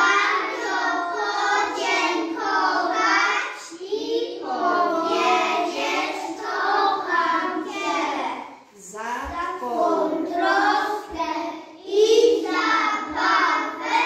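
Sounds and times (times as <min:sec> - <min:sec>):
boys singing together: 0:00.0 - 0:14.0.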